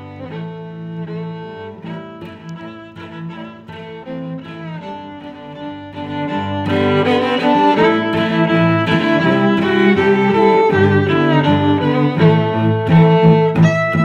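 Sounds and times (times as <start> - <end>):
bowed string music: 0.0 - 14.0.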